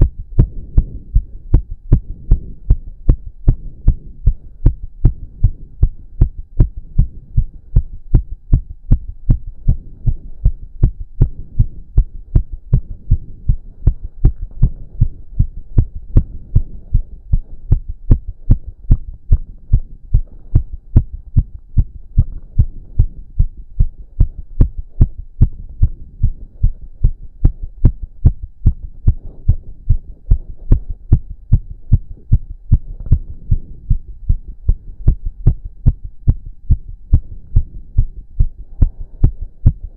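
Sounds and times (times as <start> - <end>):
fast heartbeat thumps: 0.0 - 39.9
low hum: 0.0 - 39.9.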